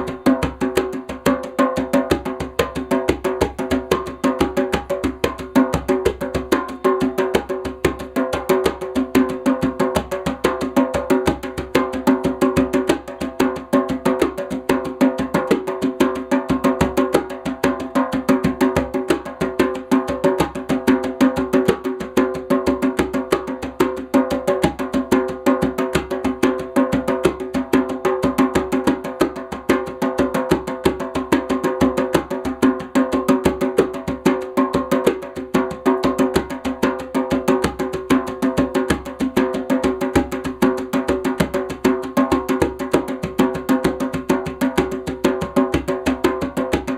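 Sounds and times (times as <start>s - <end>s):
drum played fast: 0.0s - 46.9s.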